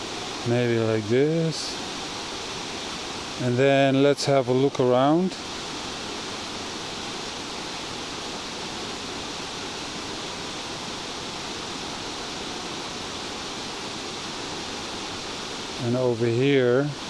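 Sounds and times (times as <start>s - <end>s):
rushing falling water: 0.0s - 17.0s.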